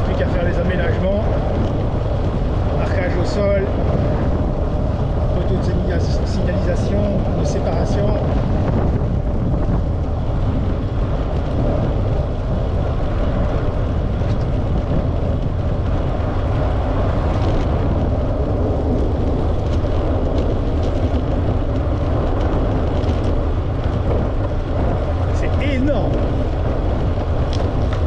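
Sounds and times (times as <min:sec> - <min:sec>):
bicycle tyre noise: 0:00.0 - 0:28.0
wind rumble on microphone: 0:00.0 - 0:28.0.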